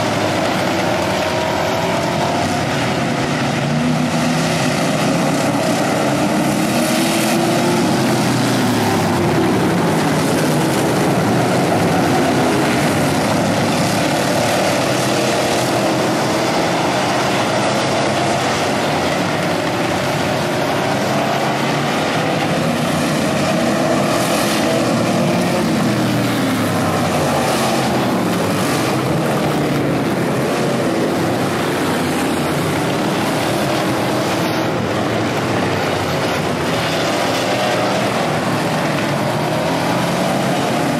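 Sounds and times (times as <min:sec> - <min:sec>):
race car engines passing: 0:00.0 - 0:40.9.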